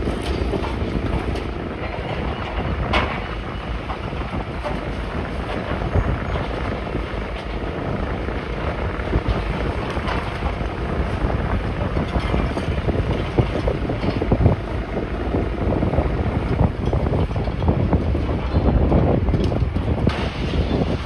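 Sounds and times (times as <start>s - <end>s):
rubble crunching and clattering: 0.0s - 18.6s
heavy diesel engine running: 0.0s - 21.0s.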